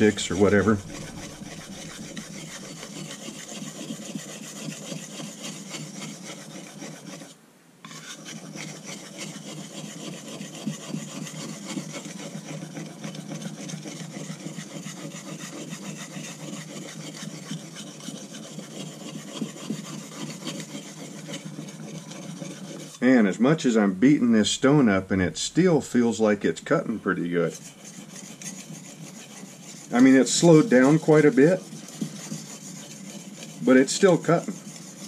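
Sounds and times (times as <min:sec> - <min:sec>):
blade scraping on whetstone: 0:00.0 - 0:35.0.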